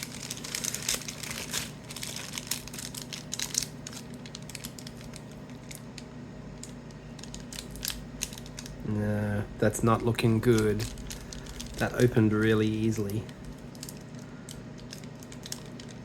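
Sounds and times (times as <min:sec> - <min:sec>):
wrapper crinkling and crackling: 0:00.0 - 0:08.9, 0:09.7 - 0:16.0.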